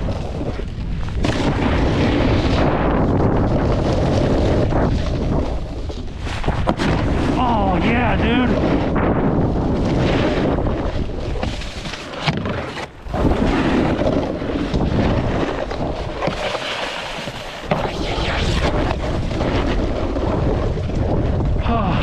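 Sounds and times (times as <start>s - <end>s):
snowboard scraping over snow: 0.0s - 22.0s
wind buffeting microphone: 0.0s - 22.0s.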